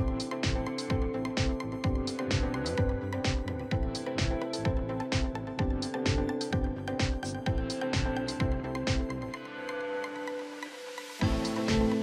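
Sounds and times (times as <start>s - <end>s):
steady drum beat: 0.0s - 9.1s, 11.2s - 12.0s
background music with held tones: 0.0s - 12.0s.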